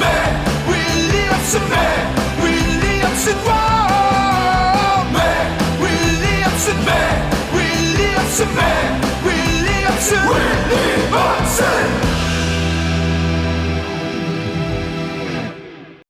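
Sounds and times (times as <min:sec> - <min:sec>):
rock cheer song with voices: 0:00.0 - 0:15.6.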